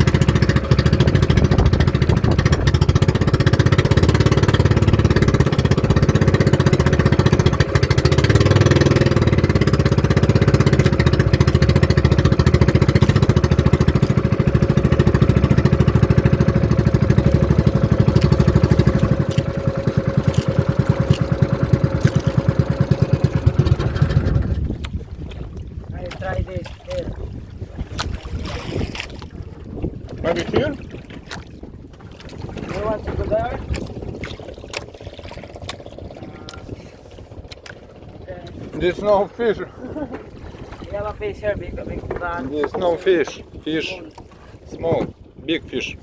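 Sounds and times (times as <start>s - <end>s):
small boat engine pulsing: 0.0s - 46.0s.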